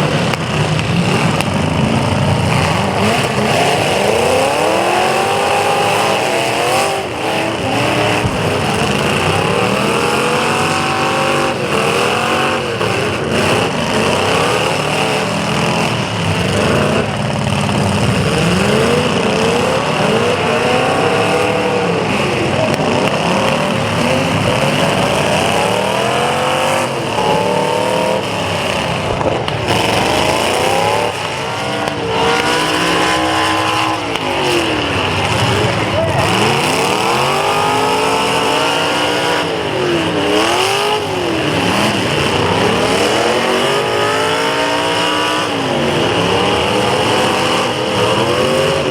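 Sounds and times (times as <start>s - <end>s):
car engines revving: 0.0s - 48.9s.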